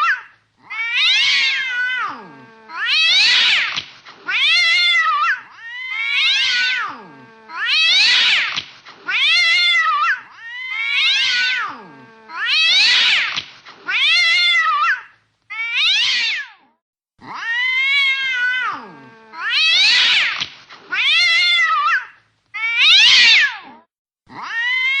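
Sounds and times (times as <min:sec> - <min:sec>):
cats yowling in a fight: 0:00.0 - 0:25.0.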